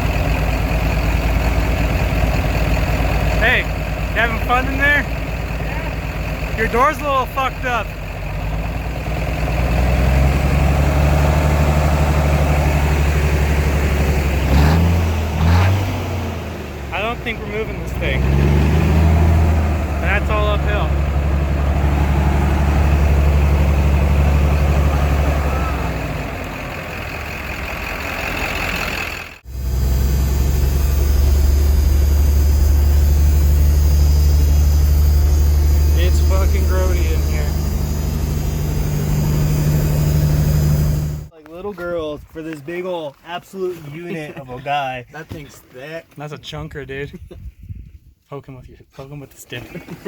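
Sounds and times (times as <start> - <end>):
diesel truck engine idling: 0.0 - 41.3.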